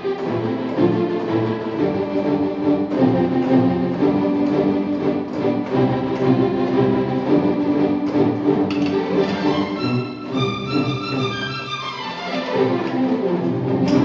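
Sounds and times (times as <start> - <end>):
orchestral strings: 0.0 - 14.0.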